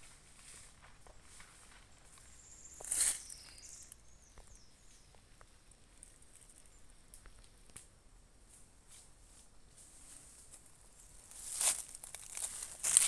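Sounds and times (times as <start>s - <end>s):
faint crackles on dry leaves: 0.0s - 13.0s.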